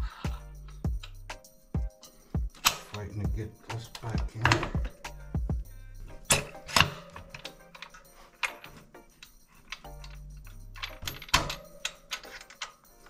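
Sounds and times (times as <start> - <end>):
background music with bass: 0.0 - 13.0
metal tools clinking: 0.0 - 13.0.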